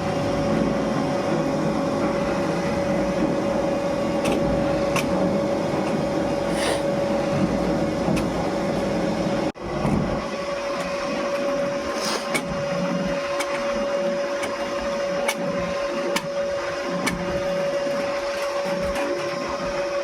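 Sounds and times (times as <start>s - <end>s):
factory machinery humming: 0.0s - 20.0s.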